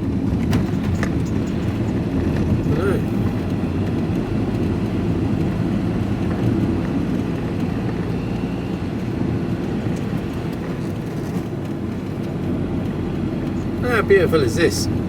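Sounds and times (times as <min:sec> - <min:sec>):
truck engine and tyre rumble: 0:00.0 - 0:15.0.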